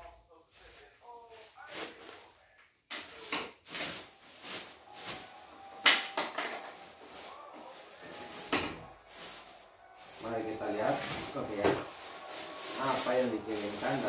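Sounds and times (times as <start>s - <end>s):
bubble wrap rustling and crackling: 0.0s - 14.0s.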